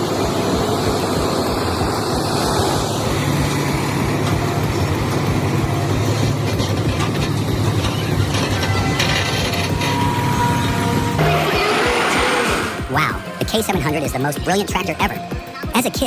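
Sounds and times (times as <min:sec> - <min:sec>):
heavy vehicle engine running: 0:00.0 - 0:15.6.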